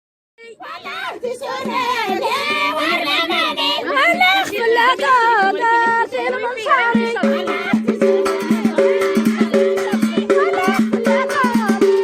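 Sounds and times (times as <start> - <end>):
women singing in a group: 0.4 - 12.0
percussion beats: 0.6 - 12.0.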